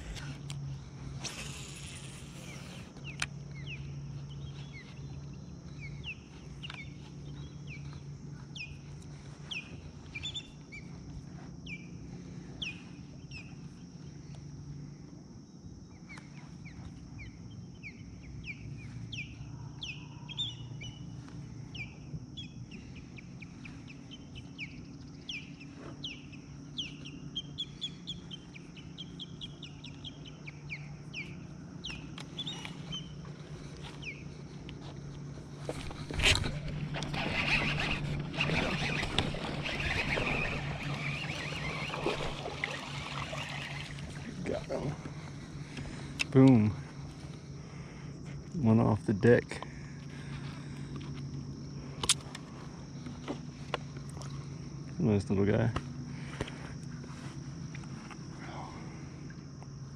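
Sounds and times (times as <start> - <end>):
birds chirping: 0.0 - 52.0
steady low hum: 0.0 - 59.9.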